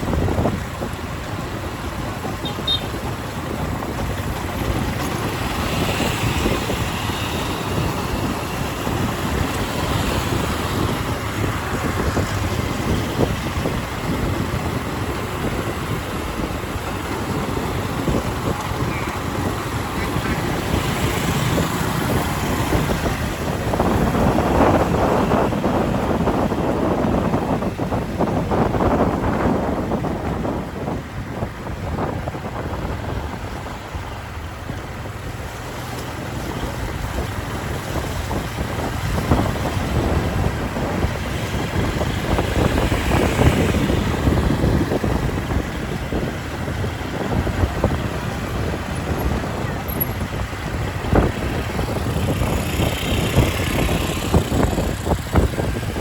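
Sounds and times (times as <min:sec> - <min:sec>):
traffic noise: 0:00.0 - 0:56.0
vehicle engine: 0:00.0 - 0:56.0
wind buffeting microphone: 0:00.0 - 0:56.0.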